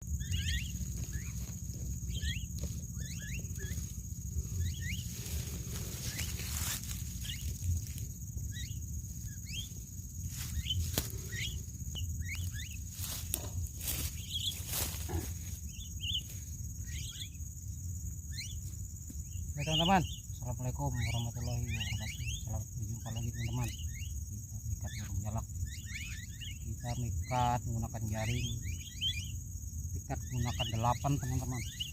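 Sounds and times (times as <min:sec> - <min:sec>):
birds chirping: 0:00.0 - 0:31.9
high-pitched insect buzz: 0:00.0 - 0:31.9.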